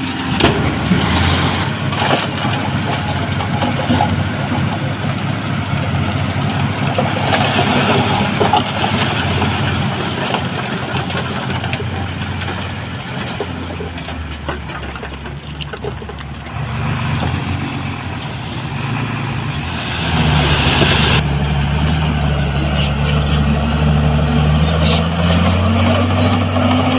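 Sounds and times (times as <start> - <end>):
heavy diesel engine running: 0.0 - 26.9.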